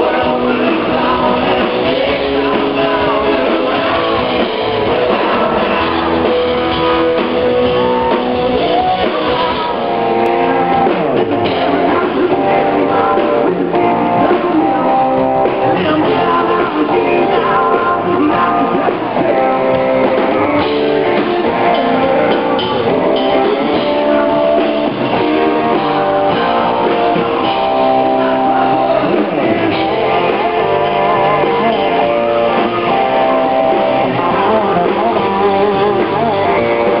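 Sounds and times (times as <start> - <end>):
drum kit: 0.0 - 37.0
man singing: 0.0 - 37.0.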